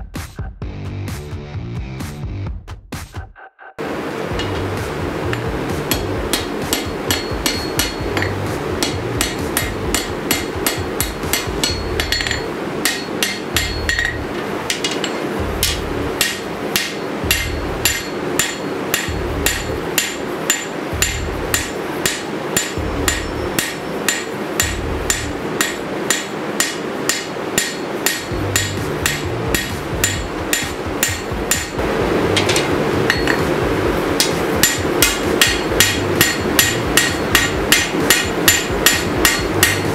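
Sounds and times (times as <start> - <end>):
steady hum: 3.8 - 39.9
hammer striking steel on anvil: 4.2 - 39.9.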